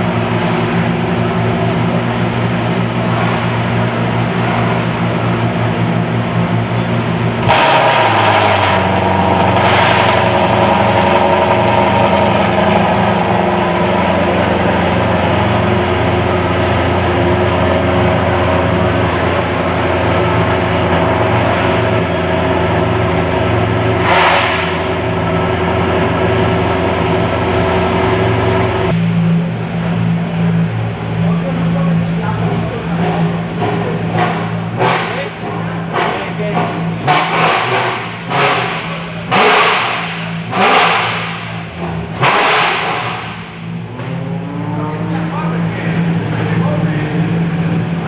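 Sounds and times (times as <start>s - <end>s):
race car engine running loudly: 0.0s - 48.0s.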